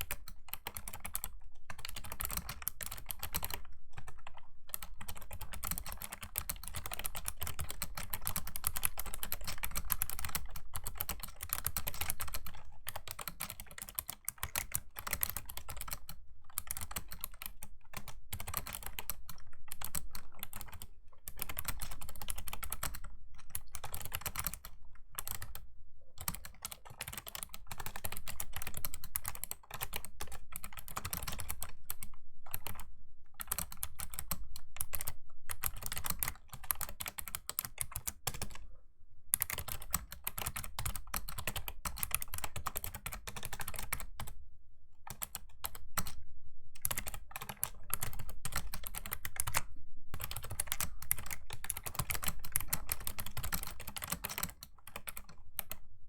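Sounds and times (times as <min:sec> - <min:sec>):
fast typing on a keyboard: 0:00.0 - 0:25.6, 0:26.2 - 0:38.6, 0:39.4 - 0:44.4, 0:45.1 - 0:46.2, 0:46.8 - 0:55.8.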